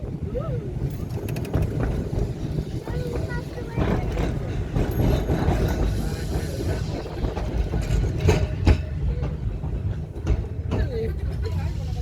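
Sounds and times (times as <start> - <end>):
tram rumbling along track: 0.0 - 12.0.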